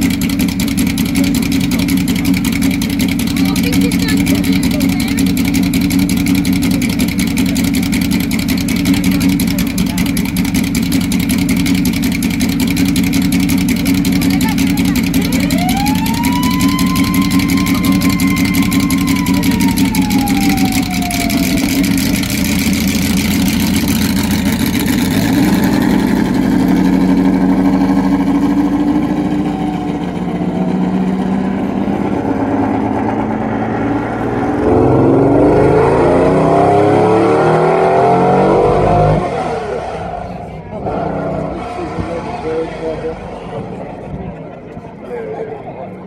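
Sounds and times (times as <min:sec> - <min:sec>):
car engine revving: 0:00.0 - 0:44.3.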